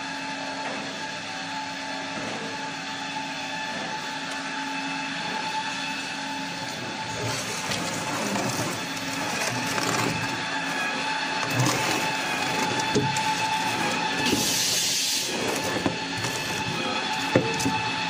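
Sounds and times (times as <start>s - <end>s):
cutting machine humming: 3.0s - 18.0s.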